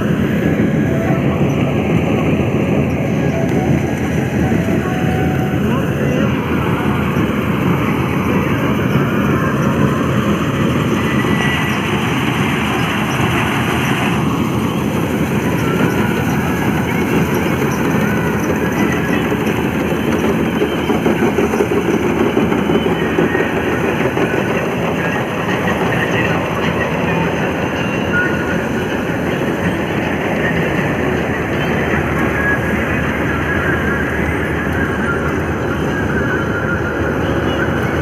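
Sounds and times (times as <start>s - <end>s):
combine harvester running: 0.0s - 38.0s.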